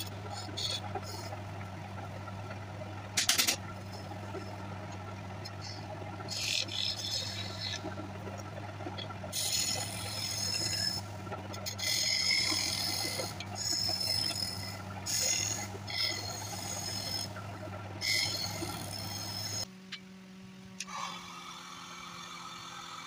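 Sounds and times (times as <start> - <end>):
chisel scraping spinning wood: 0.0 - 19.7
wood lathe humming: 0.0 - 19.7, 20.9 - 23.0.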